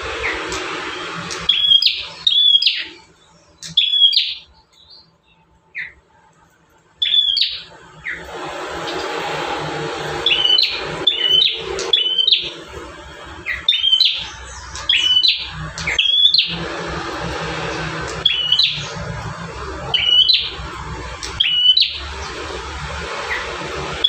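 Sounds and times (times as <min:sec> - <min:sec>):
small bird singing sharp chirps: 0:00.1 - 0:06.0, 0:07.0 - 0:09.2, 0:10.1 - 0:12.6, 0:13.3 - 0:16.9, 0:17.7 - 0:24.0.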